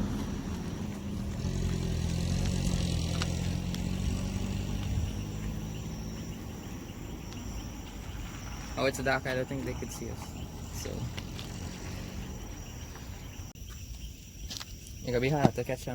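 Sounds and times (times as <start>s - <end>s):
vehicle engine droning: 0.0s - 13.5s
high-pitched insect buzz: 1.1s - 15.2s.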